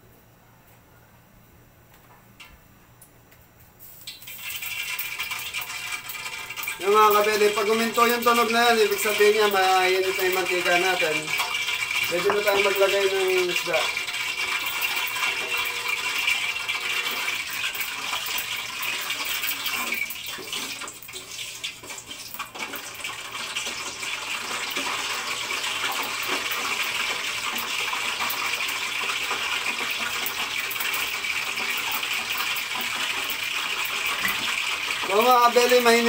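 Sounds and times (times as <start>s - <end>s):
hot oil sizzling: 3.8s - 36.0s.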